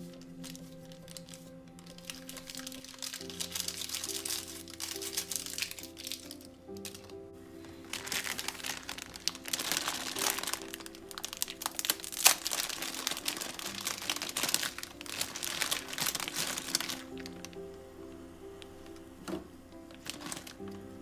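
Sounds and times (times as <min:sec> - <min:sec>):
background music: 0:00.0 - 0:21.0
food crinkling and crackling: 0:00.0 - 0:21.0.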